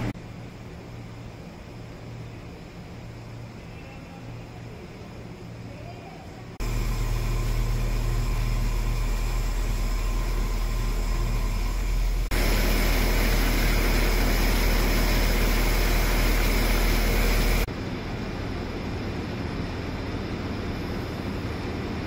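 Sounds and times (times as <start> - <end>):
train engine humming: 0.0 - 22.0.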